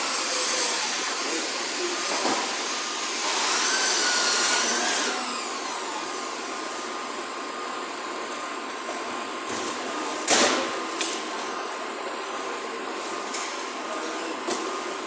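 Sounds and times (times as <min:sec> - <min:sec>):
machines whirring in factory hall: 0:00.0 - 0:15.0.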